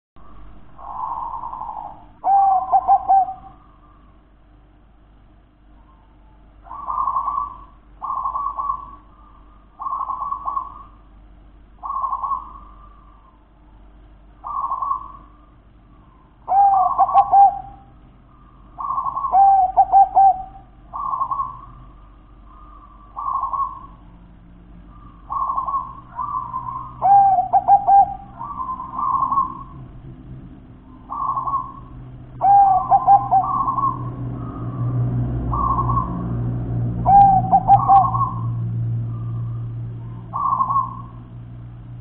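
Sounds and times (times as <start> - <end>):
dove cooing: 0.2 - 4.2, 5.8 - 11.0, 11.8 - 13.7, 14.4 - 30.1, 30.7 - 41.4.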